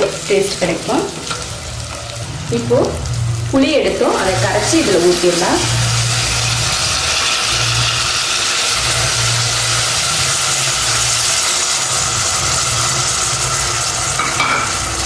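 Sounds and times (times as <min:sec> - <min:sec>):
shallots sizzling in oil: 0:00.0 - 0:15.0.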